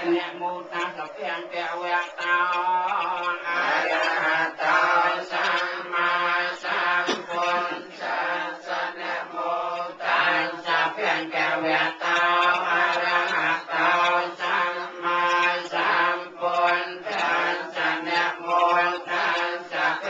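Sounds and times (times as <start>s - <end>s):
low monotone chanting: 0.0s - 20.0s.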